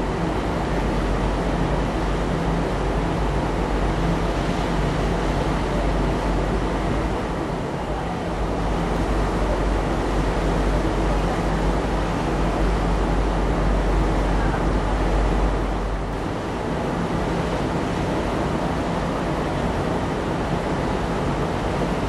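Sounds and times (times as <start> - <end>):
rushing water: 0.0 - 22.0
ship engine deep hum: 0.0 - 22.0
wind on deck: 0.0 - 22.0.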